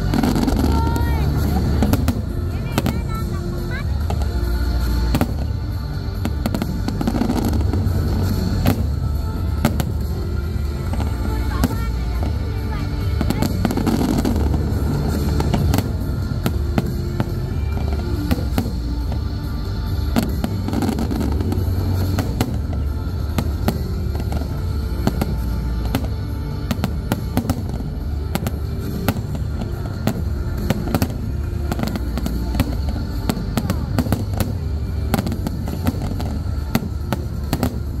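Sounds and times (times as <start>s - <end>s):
fireworks cracking: 0.0s - 38.0s
low rumble: 0.0s - 38.0s
music playing: 0.0s - 38.0s.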